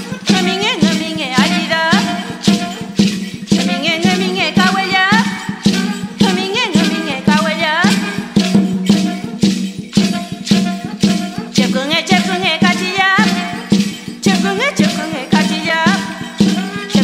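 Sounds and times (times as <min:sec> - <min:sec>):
person singing: 0:00.0 - 0:17.0
shaken percussion beat: 0:00.0 - 0:17.0.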